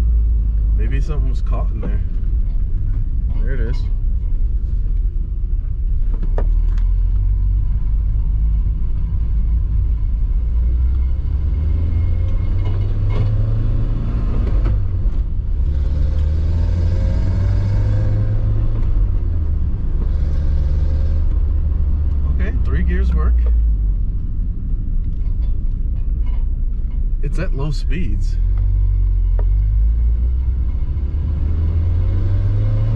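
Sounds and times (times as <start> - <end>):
car engine accelerating: 0.0 - 32.9
road rumble: 0.0 - 32.9.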